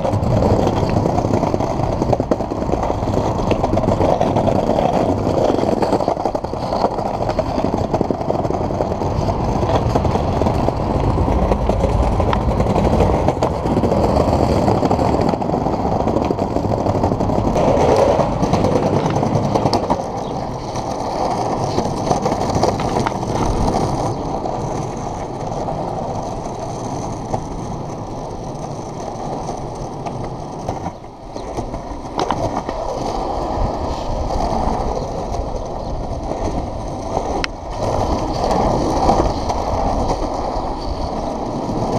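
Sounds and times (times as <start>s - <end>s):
skateboard wheels rumbling on pavement: 0.0s - 41.9s
wheels clicking over slab joints: 0.0s - 41.9s.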